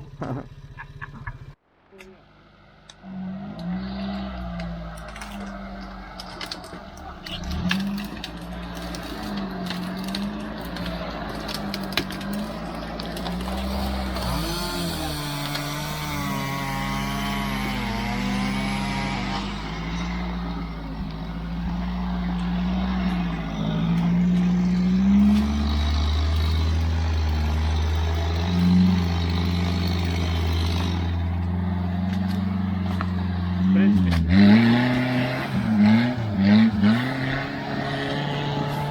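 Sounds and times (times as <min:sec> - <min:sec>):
off-road motorcycle engine revving: 0:02.9 - 0:38.9.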